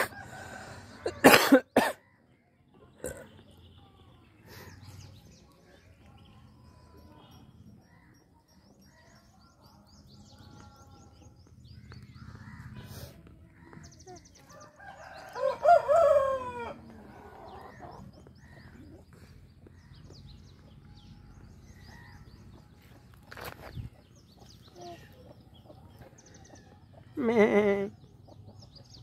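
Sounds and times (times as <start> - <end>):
small birds chirping: 2.0 - 15.8, 16.9 - 29.0.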